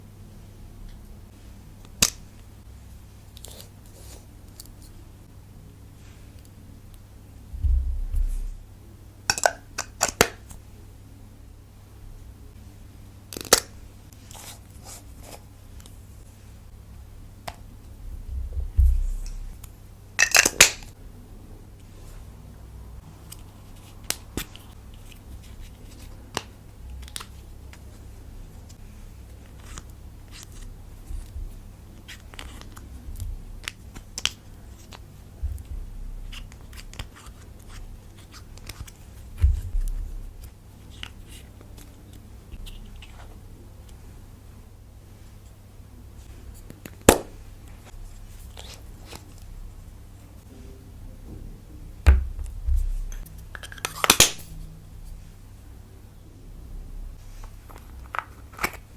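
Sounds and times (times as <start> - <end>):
low steady hum: 0.0 - 58.9.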